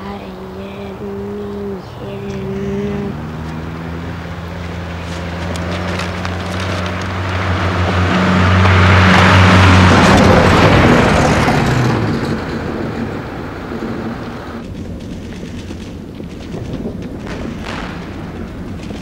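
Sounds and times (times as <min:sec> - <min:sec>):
tyre noise: 0:00.0 - 0:19.0
vehicle engine hum: 0:00.0 - 0:19.0.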